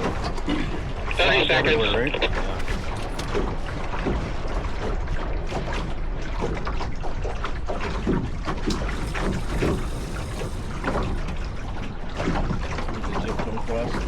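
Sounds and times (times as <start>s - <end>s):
water splashing along hull: 0.0s - 14.0s.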